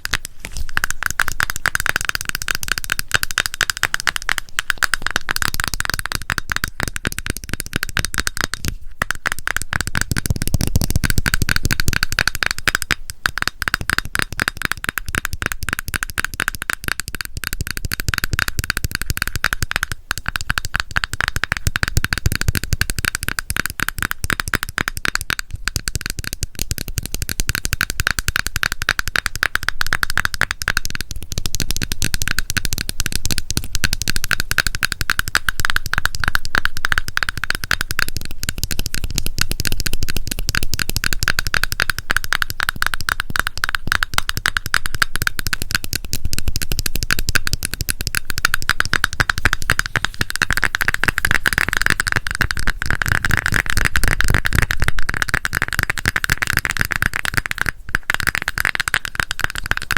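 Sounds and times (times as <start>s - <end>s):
fast tapping on plastic container: 0.0s - 59.9s.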